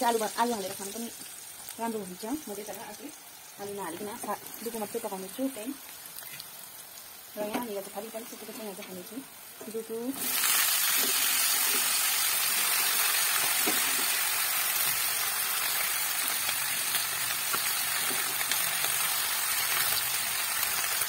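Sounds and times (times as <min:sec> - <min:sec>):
greens sizzling in hot oil: 0:00.0 - 0:21.0.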